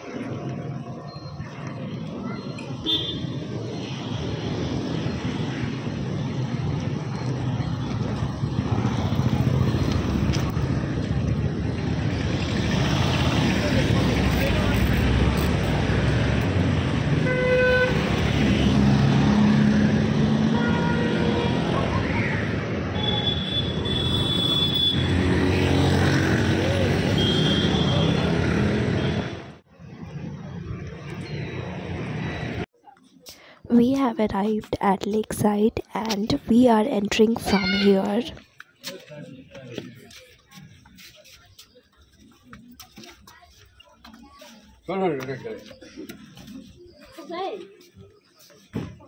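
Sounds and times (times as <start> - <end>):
road traffic drone: 0.0 - 49.0.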